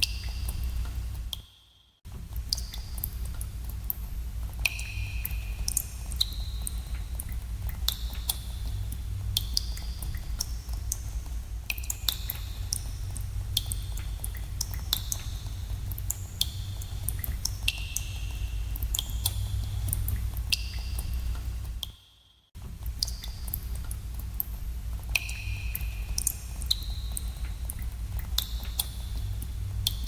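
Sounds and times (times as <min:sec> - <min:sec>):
water drops plinking in a cave: 0:00.0 - 0:30.0.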